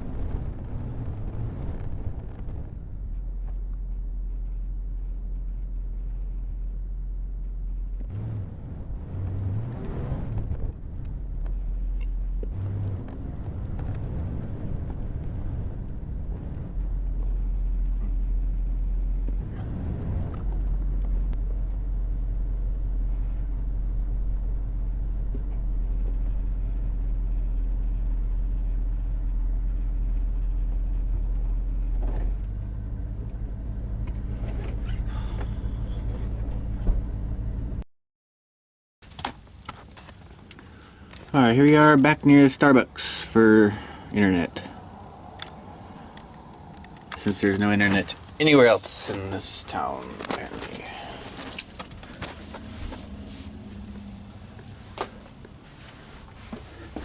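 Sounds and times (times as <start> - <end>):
vehicle engine and road rumble: 0.0 - 37.8, 39.0 - 57.0.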